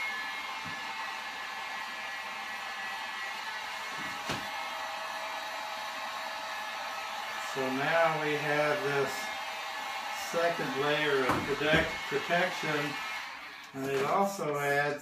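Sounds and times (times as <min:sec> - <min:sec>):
heat gun running: 0:00.0 - 0:13.8.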